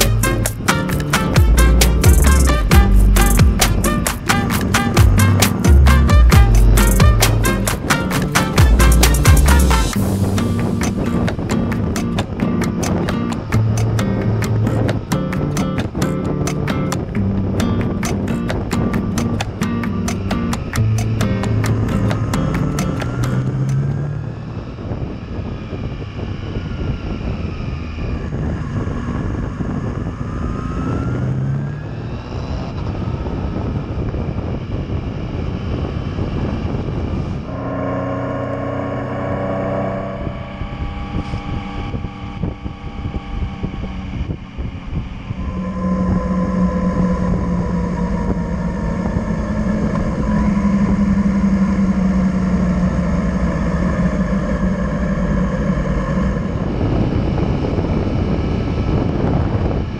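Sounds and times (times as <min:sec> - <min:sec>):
motorcycle engine running: 0:00.0 - 0:59.9
wind noise: 0:00.0 - 0:59.9.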